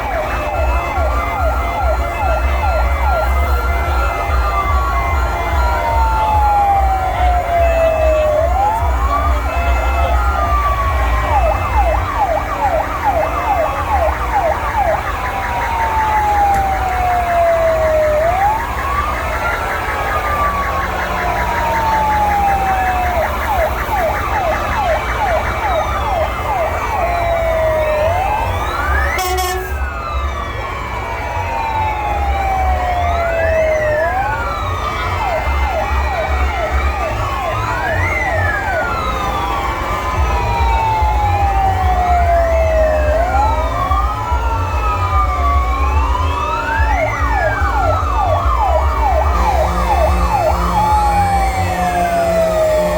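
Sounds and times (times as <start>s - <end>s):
fire engine sirens: 0.0s - 52.9s.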